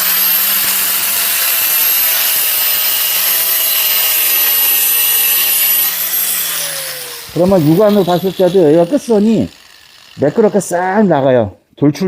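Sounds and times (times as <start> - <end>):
angle grinder grinding steel: 0.0 - 11.5.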